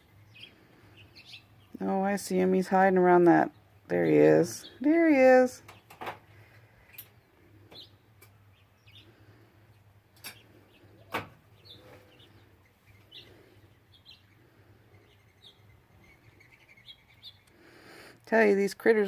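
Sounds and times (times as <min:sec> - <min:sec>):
birds chirping faintly: 0:00.0 - 0:19.0
low steady hum: 0:00.0 - 0:19.0.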